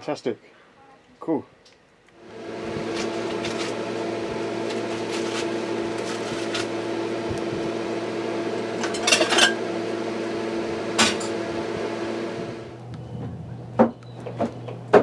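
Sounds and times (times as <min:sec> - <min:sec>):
machine hum: 0:02.1 - 0:14.9.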